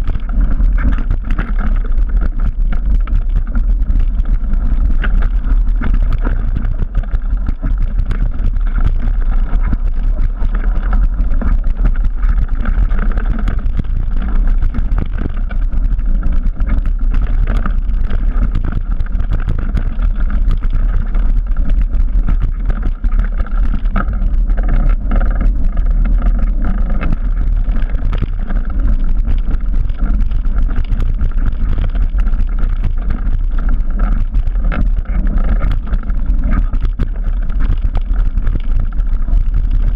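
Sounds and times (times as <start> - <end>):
bike rattling over rough ground: 0.0 - 39.9
wind rushing on microphone: 0.0 - 39.9.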